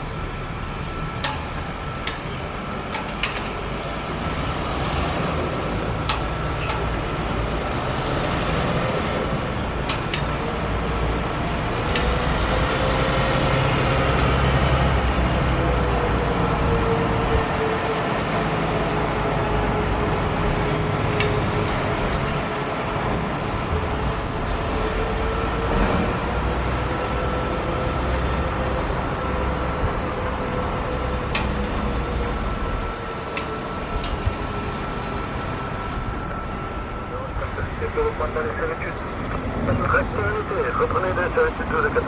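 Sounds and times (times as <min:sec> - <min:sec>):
distant jet engines roaring: 0:00.0 - 0:42.0.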